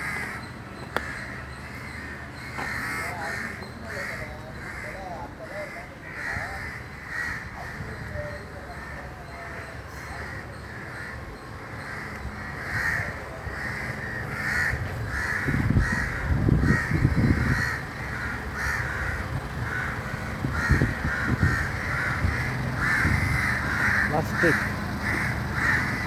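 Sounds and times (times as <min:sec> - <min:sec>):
crows cawing: 0:00.0 - 0:26.0.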